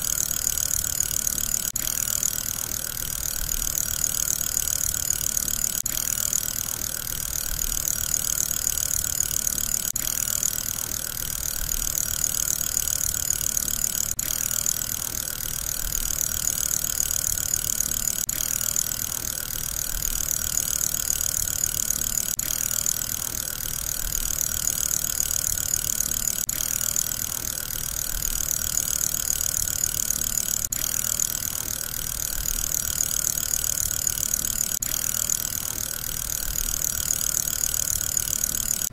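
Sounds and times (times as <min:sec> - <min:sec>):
fidget spinner whirring: 0:00.0 - 0:38.9.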